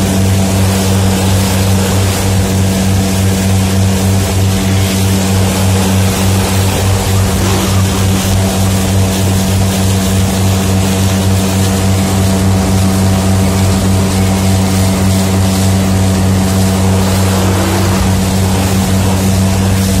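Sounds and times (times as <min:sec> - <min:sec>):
motorboat engine humming: 0:00.0 - 0:20.0
rushing water: 0:00.0 - 0:20.0
wind: 0:00.0 - 0:20.0.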